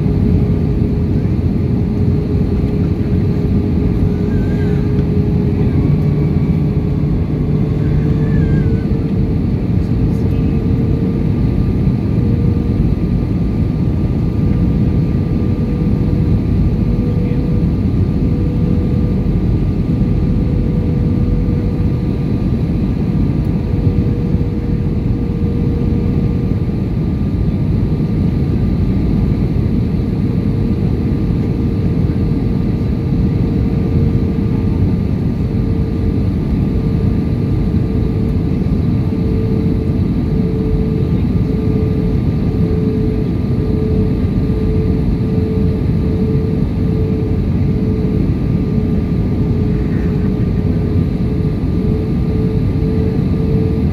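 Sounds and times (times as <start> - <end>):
jet engine noise: 0.0 - 53.9
steady hum: 0.0 - 53.9.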